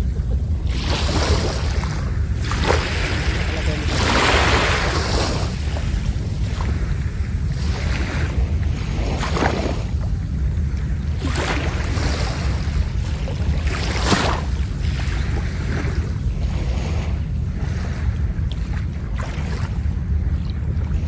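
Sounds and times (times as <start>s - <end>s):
sea waves washing up a beach: 0.0s - 21.0s
wind rumble on microphone: 0.0s - 21.0s.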